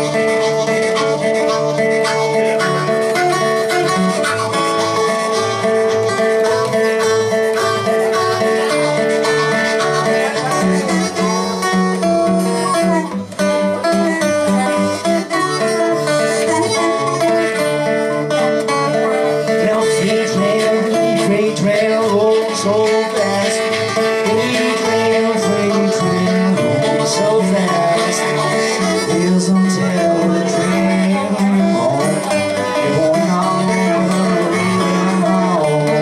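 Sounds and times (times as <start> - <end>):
guitar accompaniment: 0.0 - 36.0
harmonica: 0.0 - 36.0.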